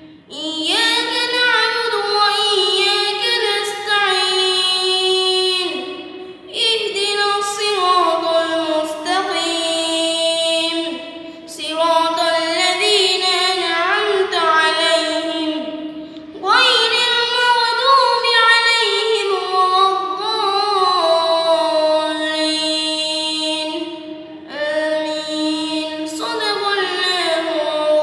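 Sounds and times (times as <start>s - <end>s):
boy singing: 0.0s - 28.0s.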